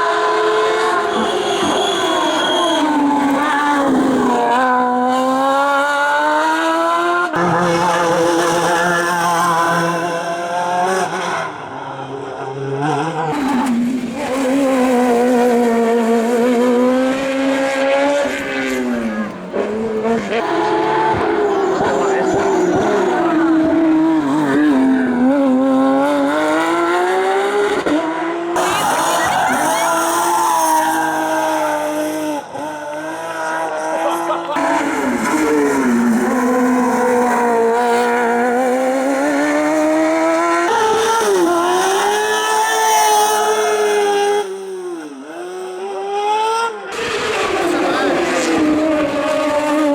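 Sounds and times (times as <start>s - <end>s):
car engine revving hard: 0.0s - 49.9s.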